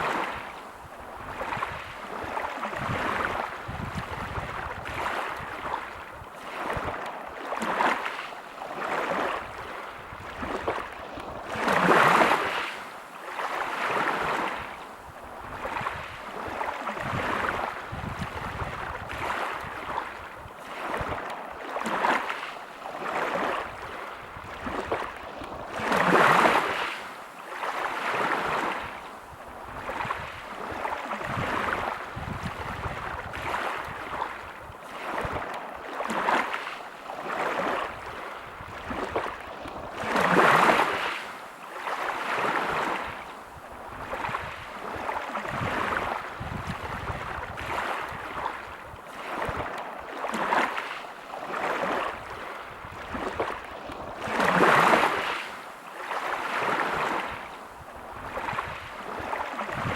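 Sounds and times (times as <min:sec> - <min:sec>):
waves breaking on pebble beach: 0:00.0 - 0:14.7, 0:15.5 - 0:29.0, 0:29.8 - 0:57.5.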